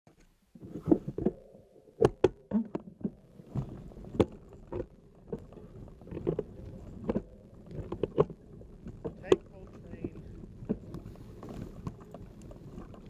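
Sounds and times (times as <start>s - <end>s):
rustling: 0.1s - 13.0s.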